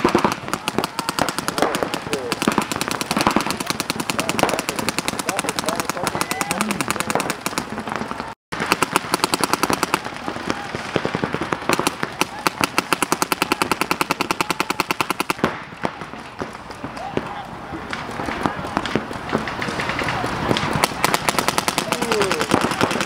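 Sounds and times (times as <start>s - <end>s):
paintball marker fire: 0.0s - 23.0s.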